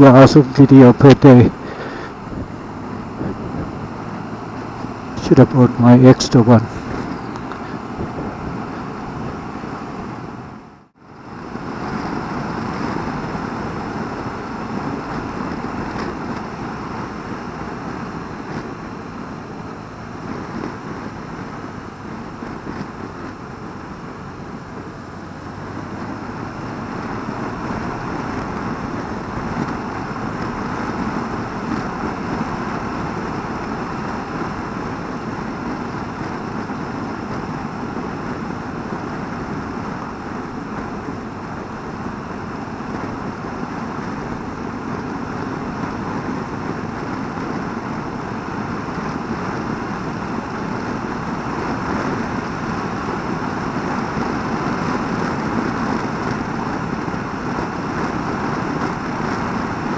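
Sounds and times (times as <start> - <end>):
motorcycle engine: 0.0 - 59.9
wind rush: 0.0 - 59.9.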